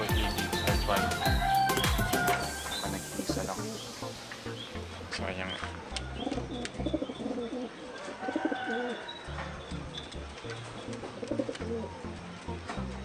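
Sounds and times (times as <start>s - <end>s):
pigeons cooing: 0.0s - 4.8s, 5.4s - 13.0s.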